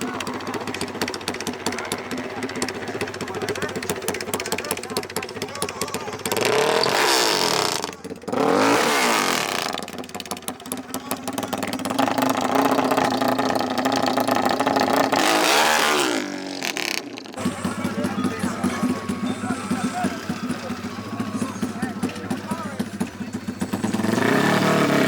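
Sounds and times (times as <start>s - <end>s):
off-road engines revving: 0.0s - 25.0s.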